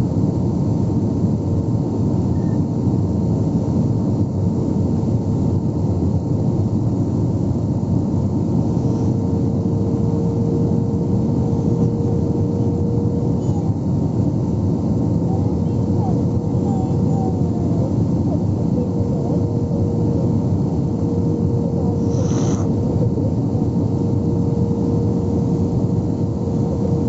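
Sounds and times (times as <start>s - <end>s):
jet engine and airflow rumble: 0.0s - 27.0s.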